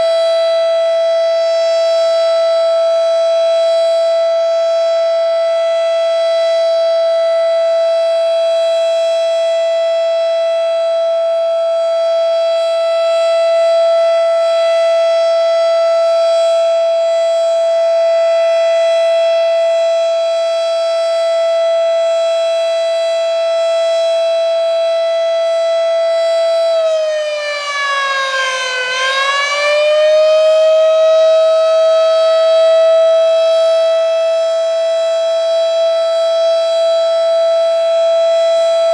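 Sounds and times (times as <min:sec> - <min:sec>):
tornado siren steady tone: 0:00.0 - 0:38.9.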